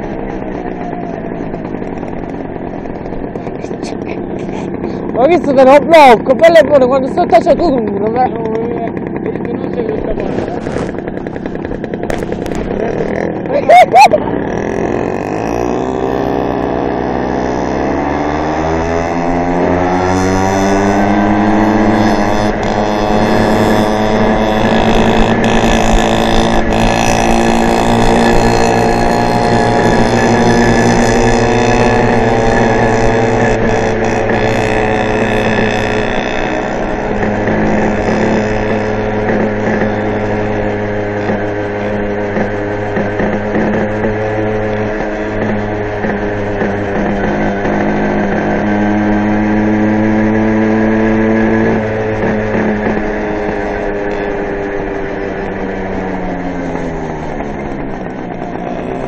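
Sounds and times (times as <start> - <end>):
high whine: 0.0 - 59.0
moped engine pulling uphill: 0.0 - 59.0.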